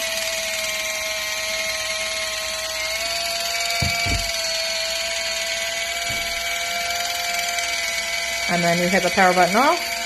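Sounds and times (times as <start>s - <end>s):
electric can opener motor whine: 0.0s - 10.0s.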